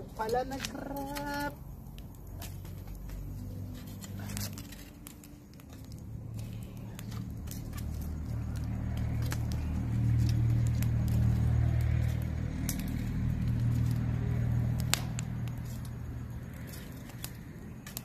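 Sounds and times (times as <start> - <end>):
vehicle engine hum passing: 0.0 - 18.0
wood fire crackling: 0.0 - 18.0.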